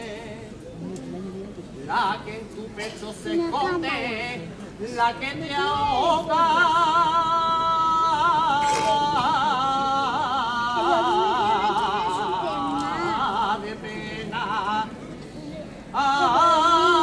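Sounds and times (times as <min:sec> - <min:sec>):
person singing unaccompanied lament: 0:00.0 - 0:15.1, 0:15.9 - 0:17.0.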